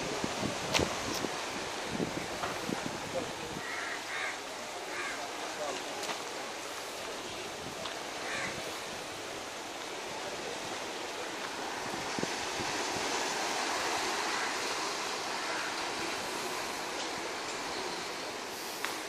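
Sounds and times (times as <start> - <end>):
sea waves washing over rocks: 0.0 - 19.0.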